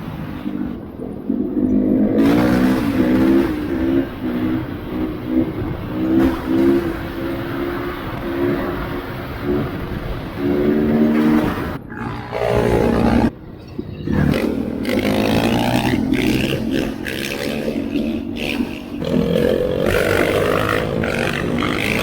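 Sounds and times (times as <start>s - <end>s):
engine revving hard: 1.4s - 13.4s, 14.0s - 22.0s.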